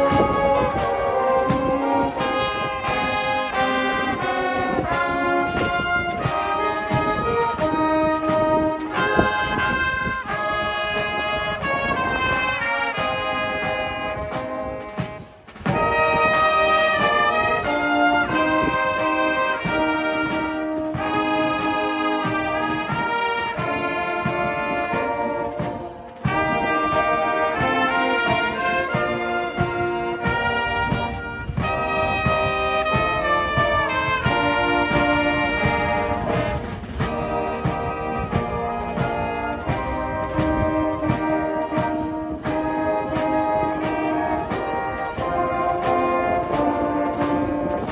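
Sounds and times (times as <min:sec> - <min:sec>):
wind band playing: 0:00.0 - 0:47.9.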